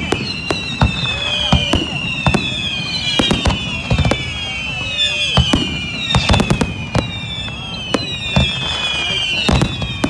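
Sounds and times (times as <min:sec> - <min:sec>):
fireworks bangs: 0:00.0 - 0:10.0
fireworks whistling: 0:00.0 - 0:10.0.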